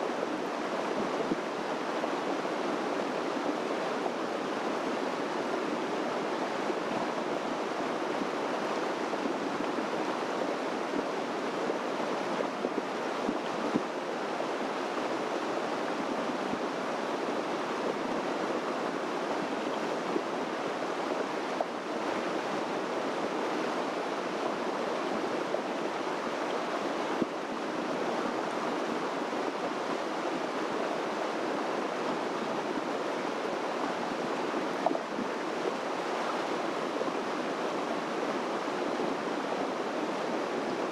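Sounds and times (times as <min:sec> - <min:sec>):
creek rushing: 0:00.0 - 0:40.9.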